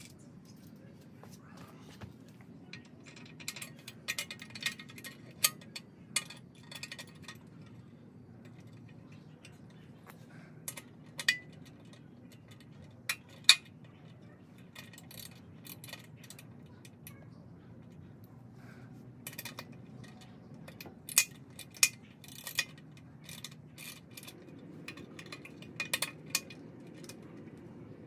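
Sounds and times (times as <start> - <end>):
steady low hum: 0.0 - 28.0
metal hardware clinking: 2.6 - 17.2, 19.2 - 28.0.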